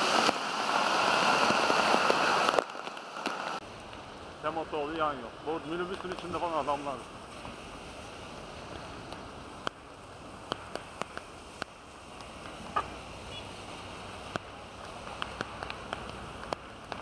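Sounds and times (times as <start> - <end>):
heavy rain hissing: 0.0 - 16.5.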